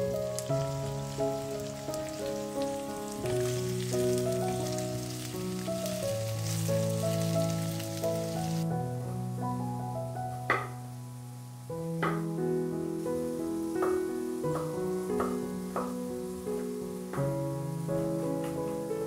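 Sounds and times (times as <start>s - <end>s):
zucchini sizzling in frying pan: 0.0s - 8.7s, 10.5s - 19.0s
background music with held notes: 0.0s - 19.0s.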